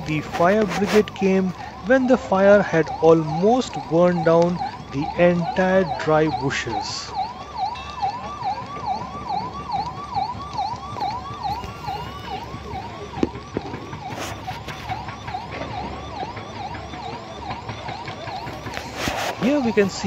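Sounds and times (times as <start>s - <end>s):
fire engine siren yelping: 0.0s - 20.0s.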